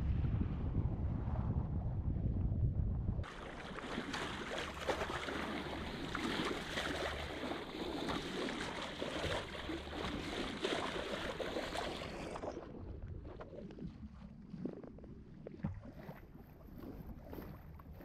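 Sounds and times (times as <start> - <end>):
water splashing along boat hull: 3.2 - 18.0.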